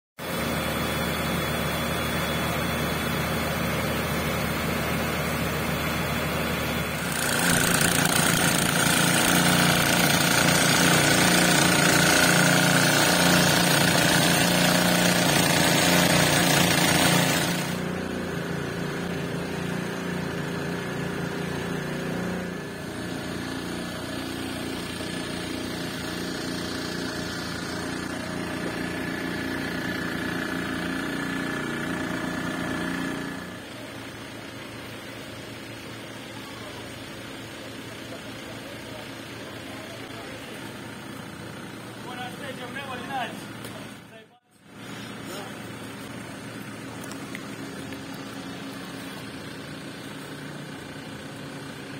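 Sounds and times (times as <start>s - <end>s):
fire engine pump motor: 0.2s - 51.9s.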